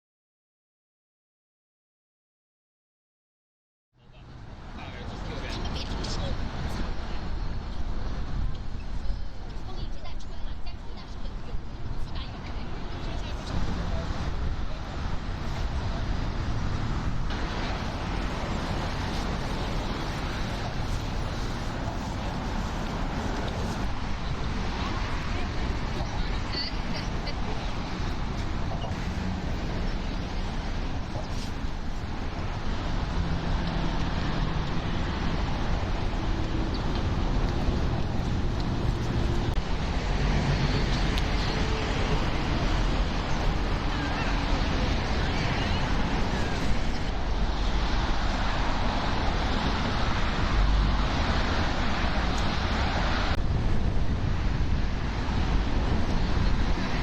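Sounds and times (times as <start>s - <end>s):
car and bus engines and tyres: 4.0s - 57.0s
city traffic rumble: 4.0s - 57.0s
wind buffeting microphone: 5.4s - 57.0s.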